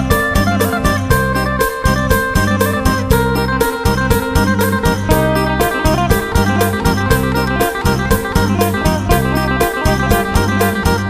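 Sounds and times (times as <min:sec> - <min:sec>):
deep bass notes: 0:00.0 - 0:11.0
plucked lute melody: 0:00.0 - 0:11.0
steady beat: 0:00.0 - 0:11.0.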